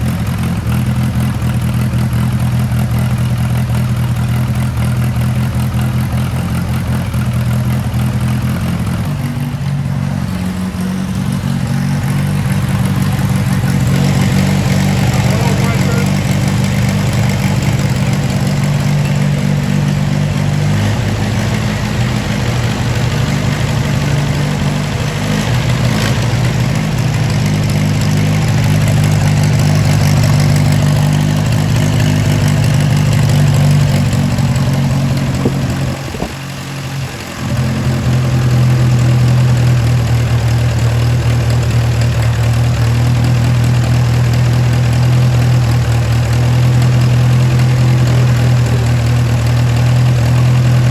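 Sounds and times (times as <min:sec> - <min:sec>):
tractor engine idling: 0:00.0 - 0:50.9.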